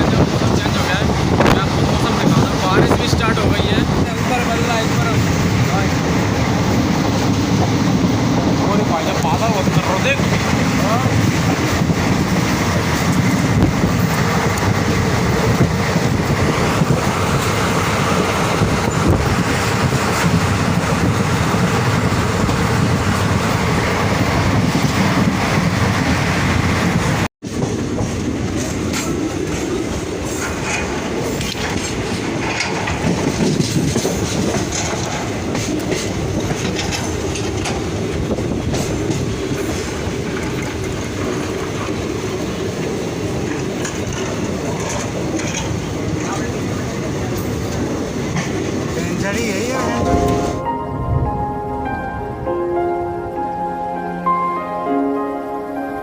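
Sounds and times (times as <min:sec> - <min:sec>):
train wheels clattering on rails: 0:00.0 - 0:50.5.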